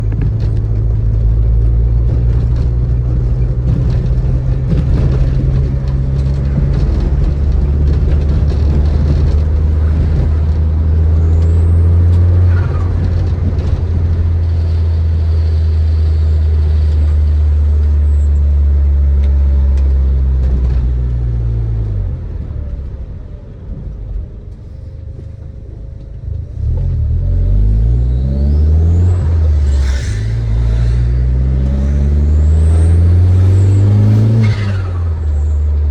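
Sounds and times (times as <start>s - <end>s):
car exhaust drone: 0.0s - 35.9s.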